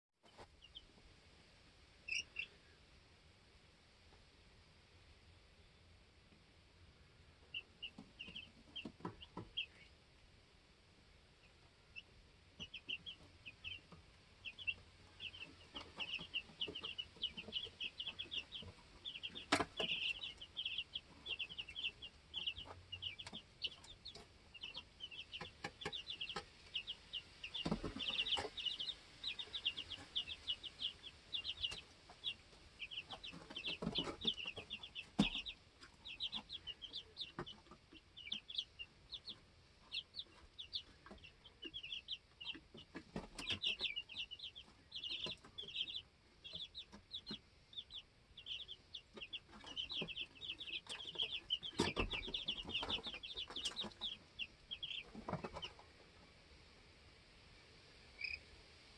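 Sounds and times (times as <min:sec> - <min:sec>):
chicks peeping: 0:00.2 - 0:01.0, 0:02.0 - 0:02.9, 0:06.9 - 0:58.9.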